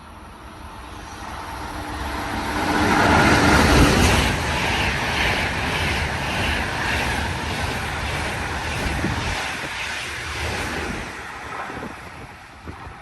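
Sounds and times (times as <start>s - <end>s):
passing train rumble: 0.0s - 13.0s.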